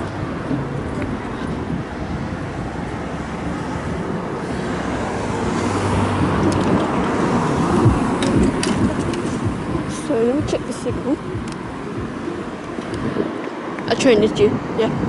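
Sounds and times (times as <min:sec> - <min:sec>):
road traffic rushing past: 0:00.0 - 0:15.0.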